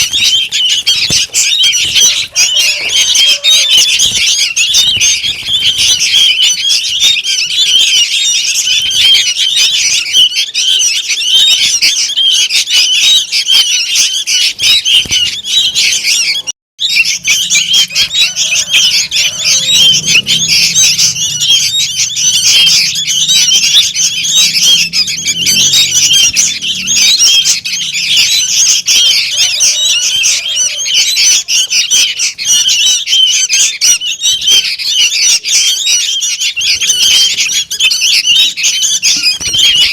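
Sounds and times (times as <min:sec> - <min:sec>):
chicks chattering calls: 0:00.0 - 0:39.9.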